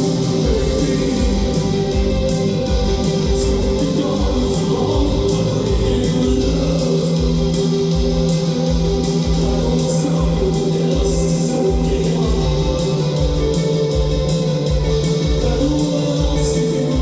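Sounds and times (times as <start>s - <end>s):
bass guitar: 0.0s - 17.0s
drum beat: 0.0s - 17.0s
electric guitar: 0.0s - 17.0s.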